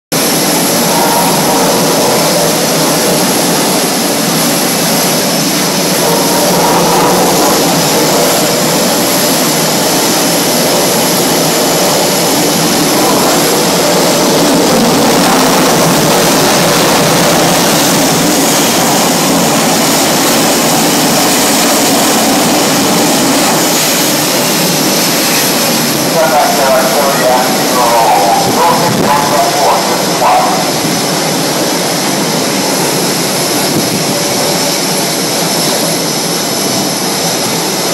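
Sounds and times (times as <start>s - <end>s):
jet engines running: 0.1s - 37.9s.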